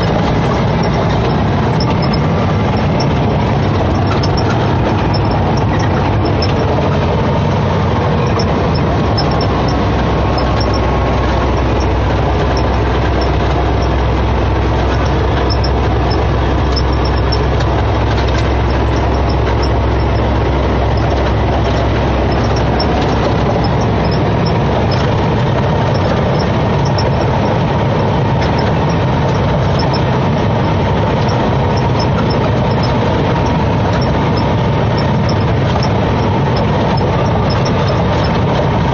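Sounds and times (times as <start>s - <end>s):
diesel truck engine drone: 0.0s - 38.9s
road noise: 0.0s - 38.9s.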